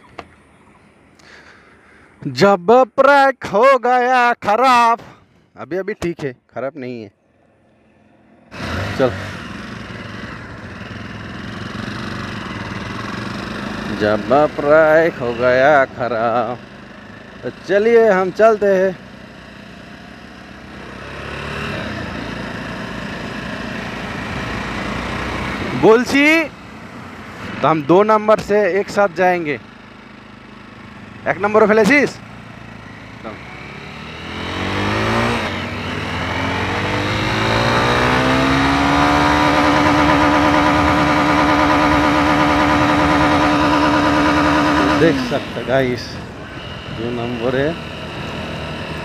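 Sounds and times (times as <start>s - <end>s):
motorcycle engines droning: 0.0s - 49.0s
wind and road noise: 0.0s - 49.0s.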